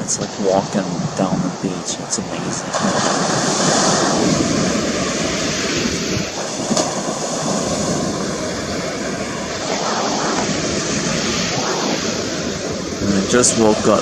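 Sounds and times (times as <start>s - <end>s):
surf rushing: 0.0s - 14.0s
wind: 0.0s - 14.0s.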